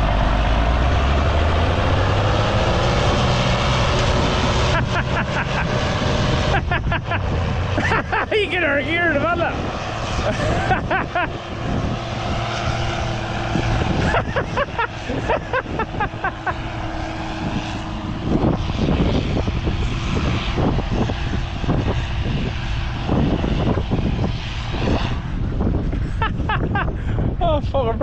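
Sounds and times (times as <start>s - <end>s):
tractor diesel engine under load: 0.0s - 28.0s
wind buffeting microphone: 0.0s - 28.0s.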